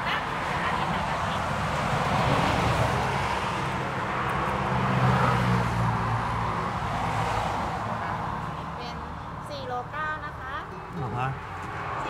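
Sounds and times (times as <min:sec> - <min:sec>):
vehicle passing on road: 0:00.0 - 0:12.0.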